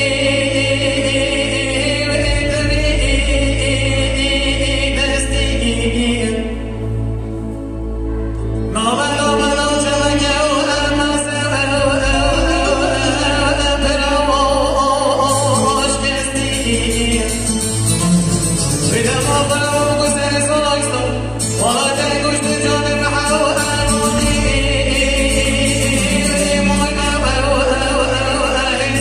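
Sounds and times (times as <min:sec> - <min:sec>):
man singing into microphone: 0:00.0 - 0:07.0, 0:08.7 - 0:29.0.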